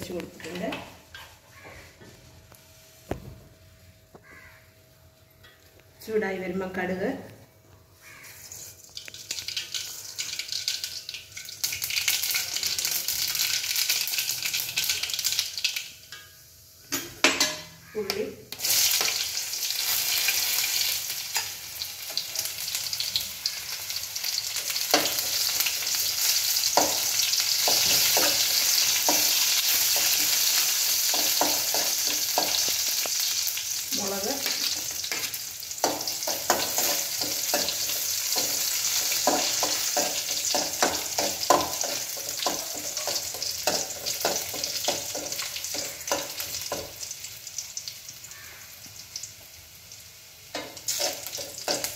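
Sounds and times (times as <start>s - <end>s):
food sizzling in hot oil: 8.0s - 51.9s.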